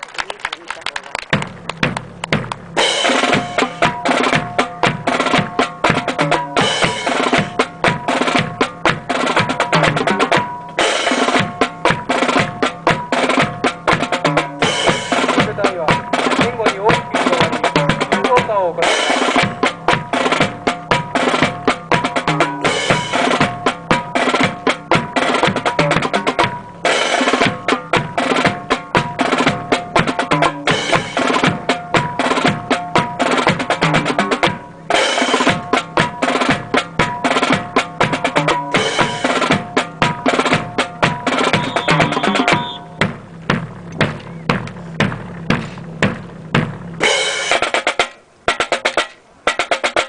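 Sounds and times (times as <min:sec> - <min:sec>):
bass drum beats: 0:01.2 - 0:47.7
marching snare drum: 0:01.2 - 0:50.0.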